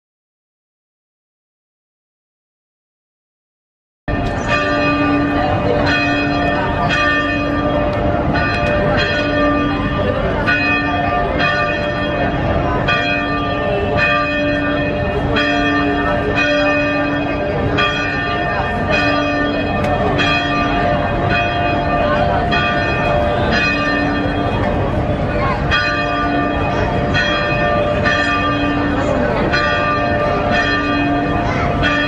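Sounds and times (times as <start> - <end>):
church bells ringing: 4.1 - 32.0.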